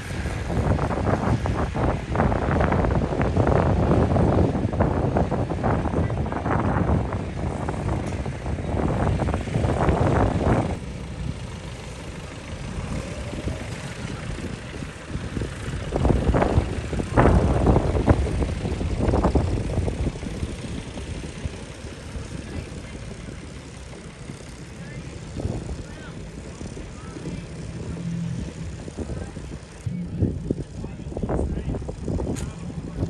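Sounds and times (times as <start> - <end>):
tractor engines driving past: 0.0 - 33.0.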